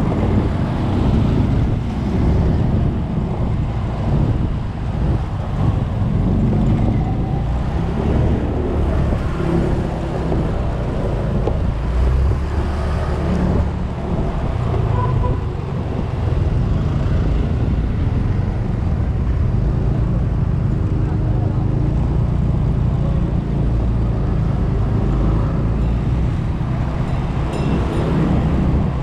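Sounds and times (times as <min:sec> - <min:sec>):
road rumble: 0:00.0 - 0:29.0
wind on microphone: 0:00.0 - 0:29.0.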